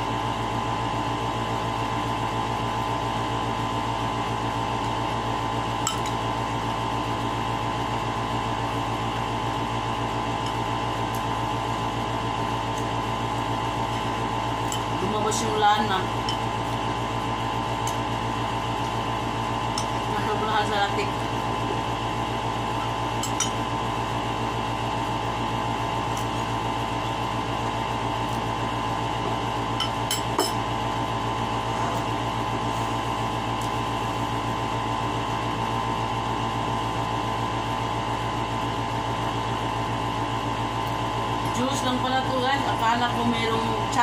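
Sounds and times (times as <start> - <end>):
appliance mechanical hum: 0.0 - 44.0.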